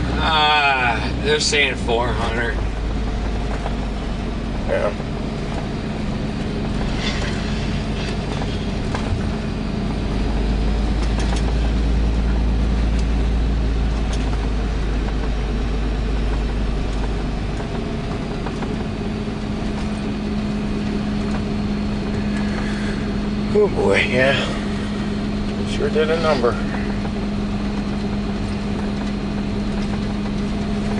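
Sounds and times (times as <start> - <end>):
constant low hum: 0.0 - 30.9
vehicle engine and road rumble: 0.0 - 30.9.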